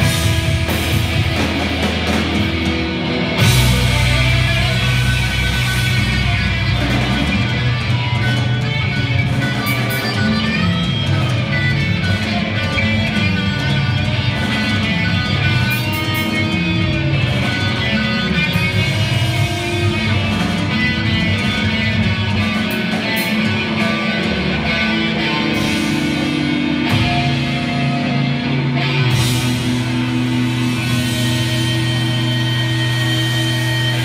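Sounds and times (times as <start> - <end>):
punk rock band playing live: 0.0 - 34.0.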